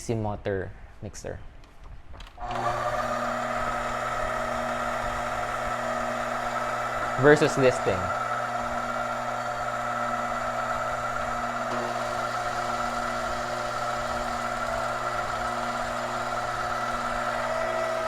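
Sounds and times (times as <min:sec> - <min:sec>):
stand mixers whining and humming: 0:02.4 - 0:18.0.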